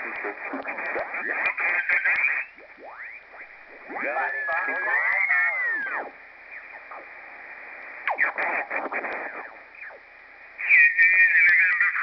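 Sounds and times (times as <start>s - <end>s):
off-tune radio voices: 0.0s - 10.0s, 10.6s - 12.0s
radio band noise hiss: 0.0s - 12.0s
strong radio signal: 0.0s - 12.0s.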